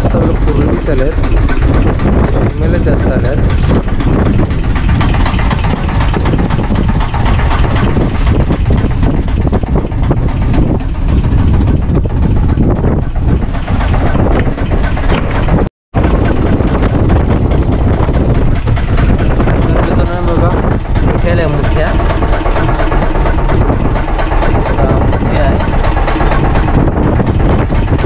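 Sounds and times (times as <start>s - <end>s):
choppy sea water: 0.0s - 28.0s
heavy low rumble: 0.0s - 28.0s
wind buffeting microphone: 0.0s - 28.0s.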